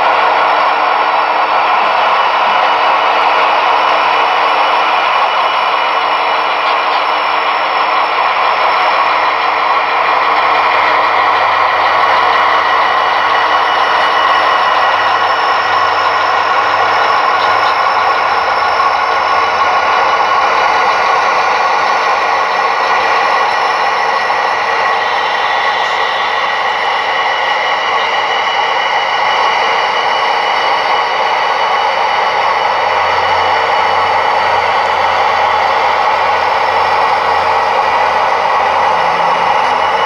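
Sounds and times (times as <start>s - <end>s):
model train diesel engine sound: 0.0s - 40.0s.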